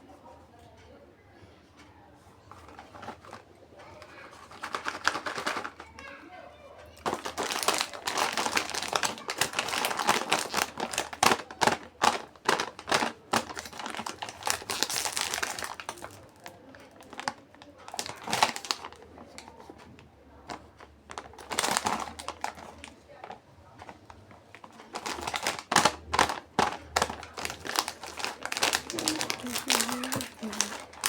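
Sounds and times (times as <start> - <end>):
plastic packaging crinkling: 2.5 - 6.1, 7.0 - 31.0.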